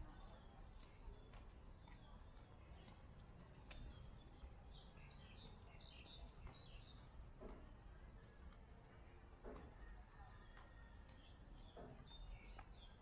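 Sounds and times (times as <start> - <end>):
street background noise: 0.0 - 13.0.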